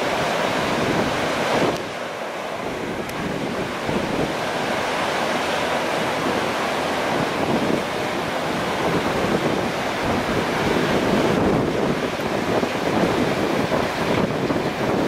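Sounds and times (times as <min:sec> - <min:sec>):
river rushing: 0:00.0 - 0:15.0
wind buffeting microphone: 0:00.0 - 0:15.0.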